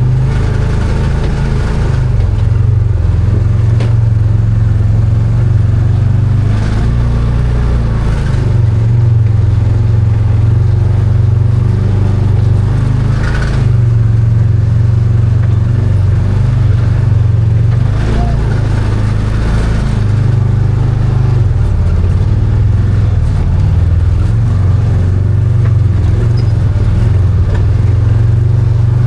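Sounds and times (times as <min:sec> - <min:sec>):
engine running under load: 0:00.0 - 0:29.0.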